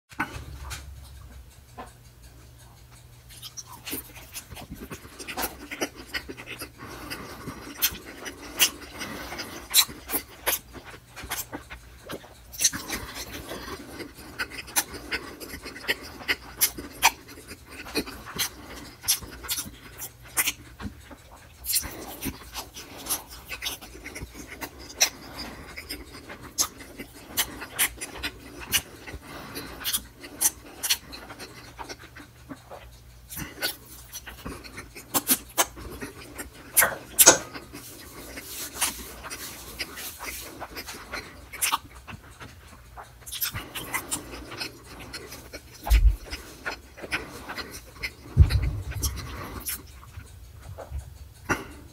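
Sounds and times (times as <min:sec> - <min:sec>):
sharp mouth clicks: 0:00.2 - 0:51.9
wet chewing and lip smacking: 0:00.2 - 0:51.9.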